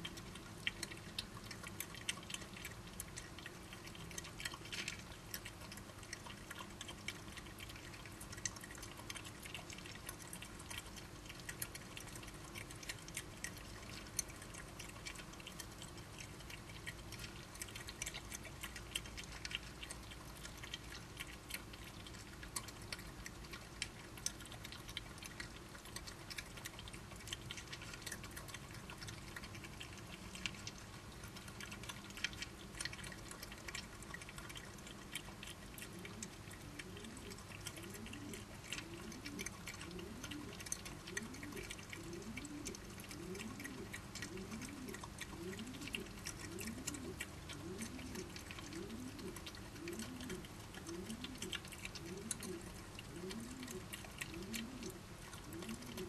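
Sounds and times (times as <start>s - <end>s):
badgers chewing: 0.0s - 56.0s
steady low hum: 0.0s - 56.0s.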